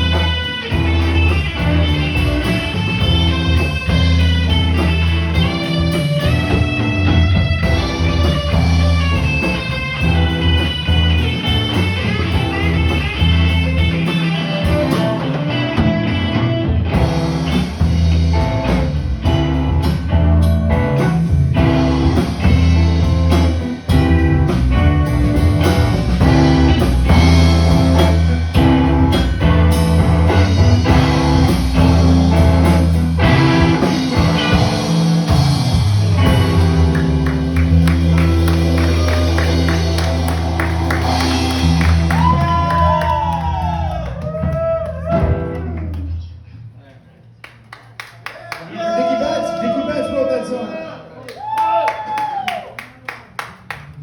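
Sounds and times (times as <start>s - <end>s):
steady bass line: 0.0s - 46.2s
electric guitar: 0.0s - 46.5s
drums: 0.0s - 50.2s, 51.3s - 54.0s.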